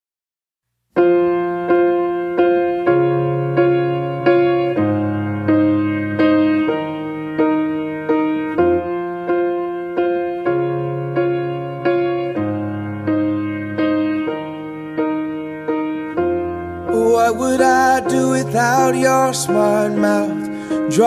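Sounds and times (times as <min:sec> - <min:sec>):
slow piano ballad: 0:00.9 - 0:21.0.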